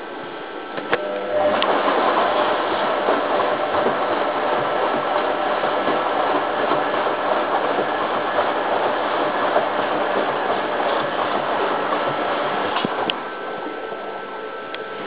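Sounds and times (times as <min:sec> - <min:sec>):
washing machine drum turning: 0:00.9 - 0:13.9.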